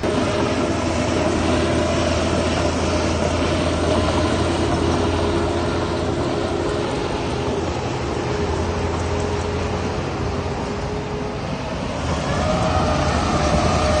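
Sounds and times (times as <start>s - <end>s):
heavy diesel engine droning: 0.0s - 14.0s.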